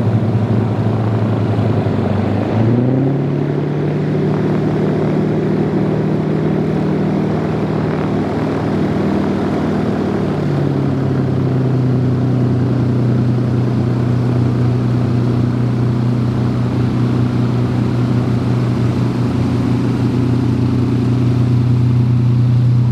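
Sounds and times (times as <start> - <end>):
aircraft piston engines droning: 0.0 - 22.9.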